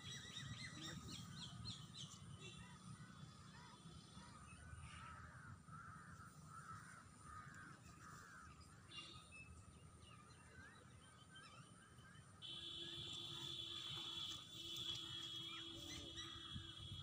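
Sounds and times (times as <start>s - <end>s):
faint bird calls: 0.0s - 17.0s.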